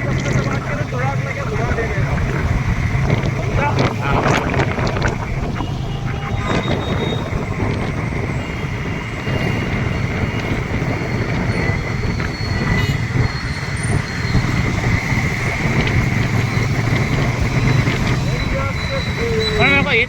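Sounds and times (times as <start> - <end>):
motorbike engine running: 0.0 - 20.0
wind and road noise: 0.0 - 20.0.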